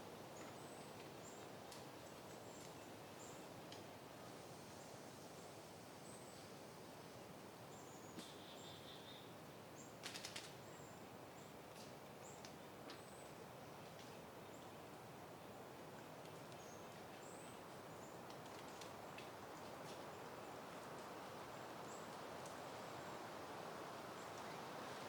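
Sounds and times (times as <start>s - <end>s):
soft steady wind: 0.0s - 25.0s.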